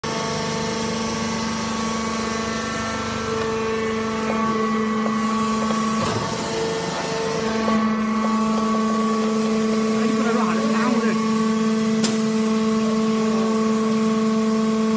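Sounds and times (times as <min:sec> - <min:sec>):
hydraulic power unit humming: 0:00.0 - 0:14.9.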